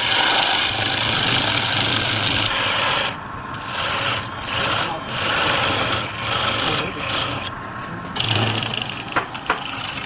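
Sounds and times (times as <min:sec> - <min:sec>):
tool rasping on spinning wood: 0:00.0 - 0:07.5, 0:08.2 - 0:10.0
low motor hum: 0:00.0 - 0:10.0.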